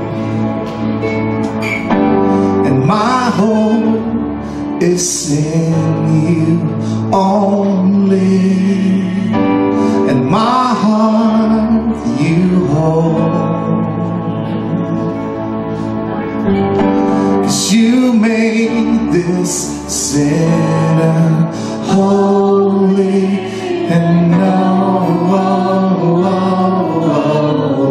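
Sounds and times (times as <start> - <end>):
backing chords: 0.0 - 27.9
electric guitar: 0.0 - 27.9
man singing: 2.5 - 15.5, 17.3 - 27.9.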